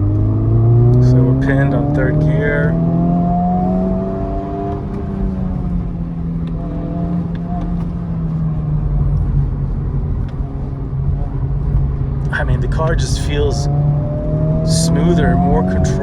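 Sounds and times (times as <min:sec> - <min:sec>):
car engine droning: 0:00.0 - 0:16.0
road rumble: 0:00.0 - 0:16.0.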